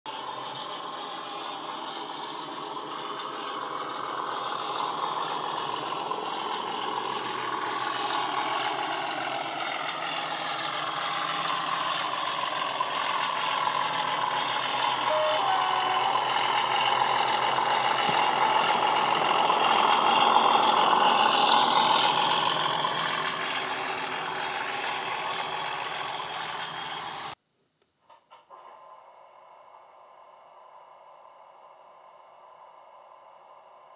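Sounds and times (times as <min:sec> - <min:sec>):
model train diesel engine sound: 0:00.1 - 0:27.4, 0:28.3 - 0:33.9.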